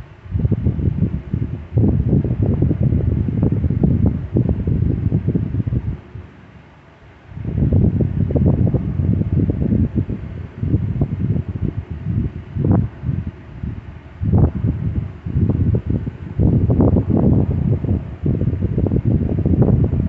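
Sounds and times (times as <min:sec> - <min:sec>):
wind buffeting microphone: 0:00.0 - 0:06.5, 0:07.2 - 0:20.0.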